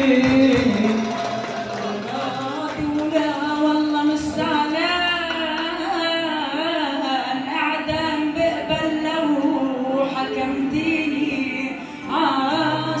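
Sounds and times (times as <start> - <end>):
woman singing into microphone: 0.0 - 13.0.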